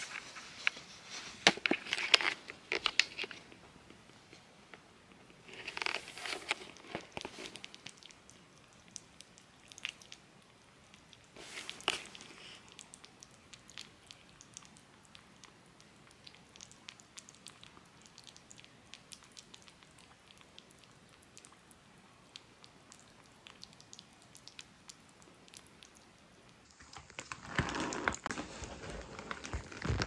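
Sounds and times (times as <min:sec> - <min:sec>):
kitten licking and eating: 0:00.0 - 0:30.0.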